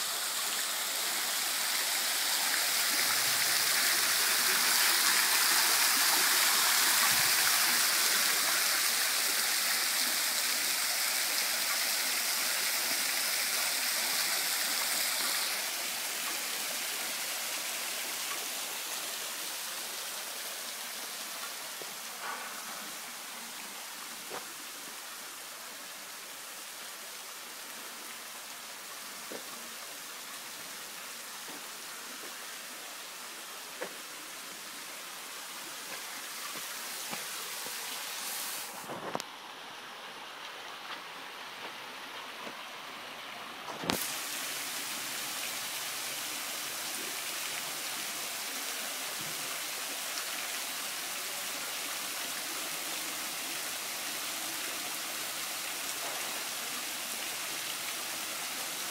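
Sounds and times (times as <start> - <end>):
fountain water splashing: 0.0 - 39.2, 40.1 - 58.9.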